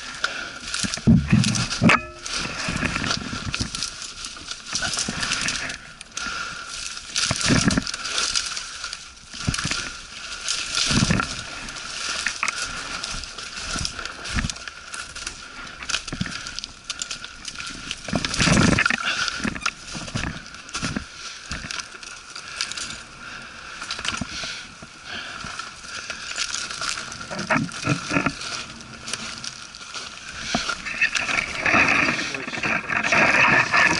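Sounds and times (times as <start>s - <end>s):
footsteps crunching through undergrowth: 0.0s - 33.9s.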